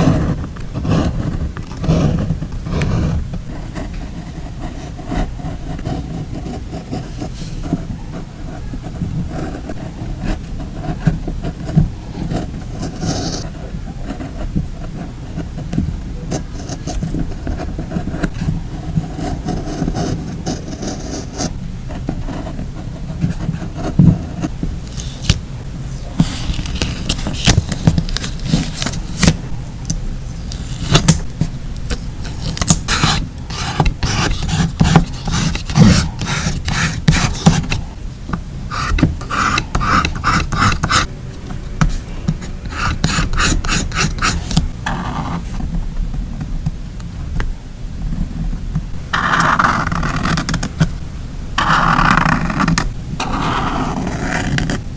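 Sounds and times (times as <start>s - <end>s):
paper scraping and rubbing: 0.0s - 13.5s, 16.6s - 38.0s, 38.7s - 45.6s, 48.9s - 54.9s.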